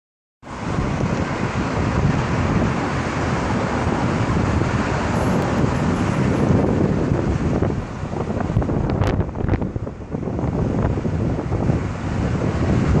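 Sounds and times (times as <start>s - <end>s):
road traffic rushing: 0.4s - 13.0s
wind buffeting microphone: 0.5s - 13.0s.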